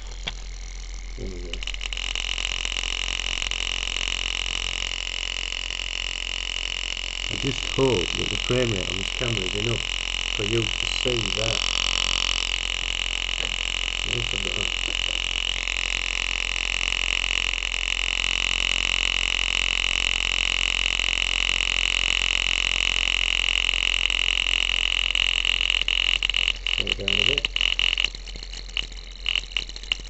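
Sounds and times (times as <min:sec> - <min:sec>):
small engine piston buzzing: 0:00.0 - 0:30.0.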